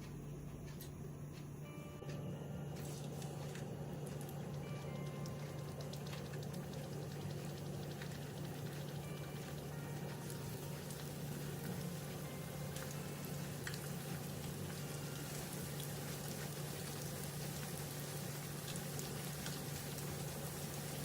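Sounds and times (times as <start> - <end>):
steady low hum: 0.0 - 21.0
food crackling and popping in pan: 2.8 - 21.0.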